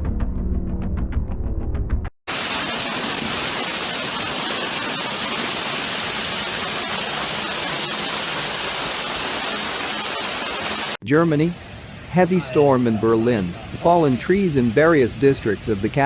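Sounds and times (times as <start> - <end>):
loud steady hiss: 2.3 - 16.0.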